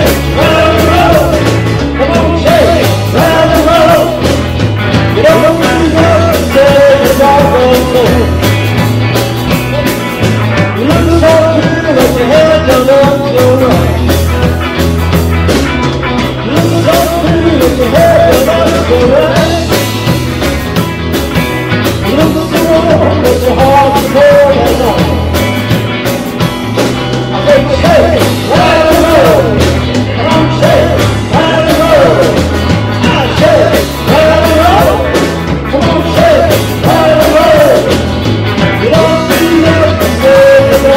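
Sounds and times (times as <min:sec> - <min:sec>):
bending lead melody: 0:00.0 - 0:40.9
live rock and roll band: 0:00.0 - 0:40.9.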